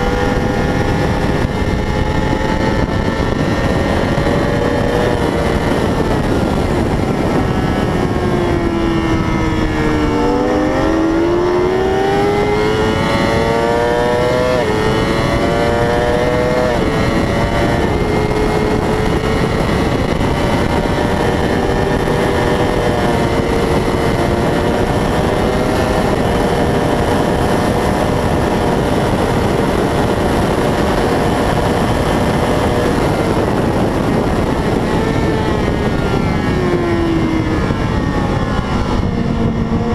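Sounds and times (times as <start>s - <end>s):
racing motorcycle engine: 0.0s - 39.9s
wind noise: 0.0s - 39.9s.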